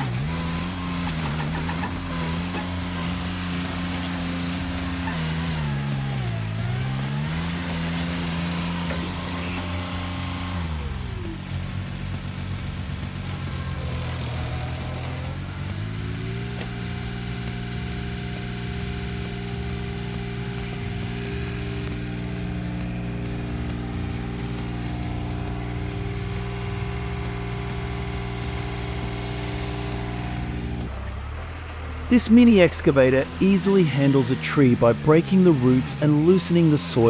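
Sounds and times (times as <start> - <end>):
stump grinder engine under load: 0.0 - 37.0.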